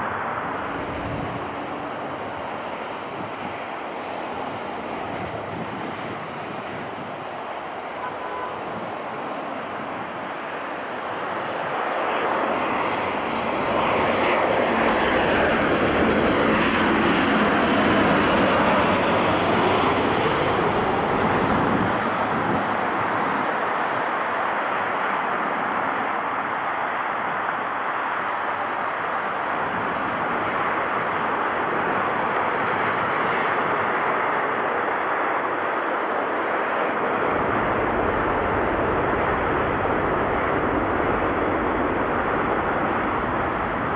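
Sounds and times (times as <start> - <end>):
airliner engines passing: 0.0 - 43.9.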